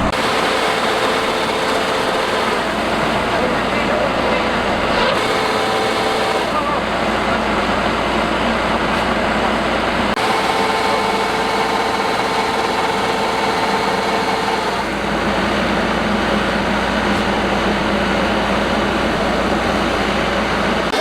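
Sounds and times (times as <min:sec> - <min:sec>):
combine harvester running: 0:00.0 - 0:21.0
steady whine: 0:00.0 - 0:21.0.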